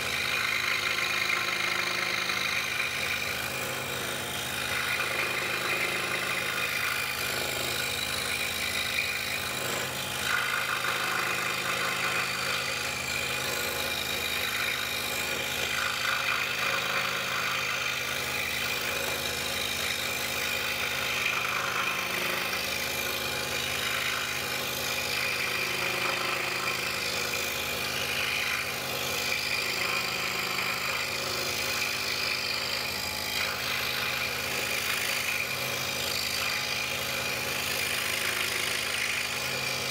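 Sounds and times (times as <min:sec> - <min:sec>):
saw blade rasping through wood: 0:00.0 - 0:39.9
scroll saw motor hum: 0:00.0 - 0:39.9.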